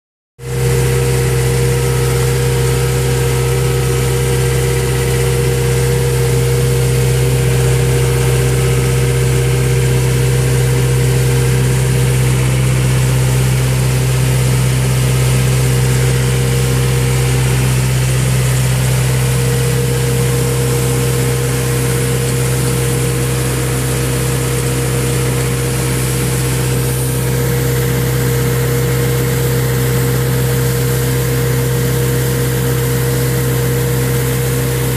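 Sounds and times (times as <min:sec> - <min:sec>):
tractor engine running steadily: 0:00.4 - 0:34.9.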